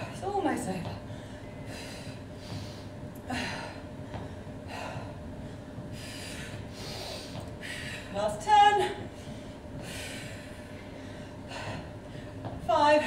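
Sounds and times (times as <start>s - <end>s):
woman breathing hard: 1.0s - 8.2s, 9.0s - 12.6s.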